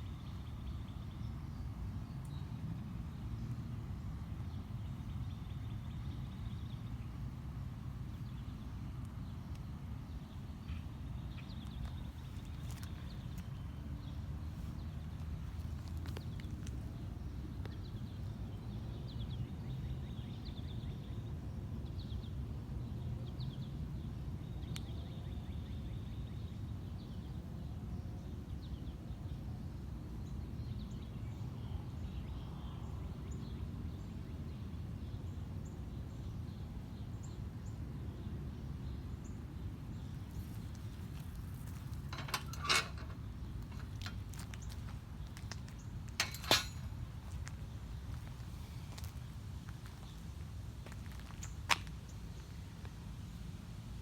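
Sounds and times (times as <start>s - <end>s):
faint birds chirping: 0.0s - 53.6s.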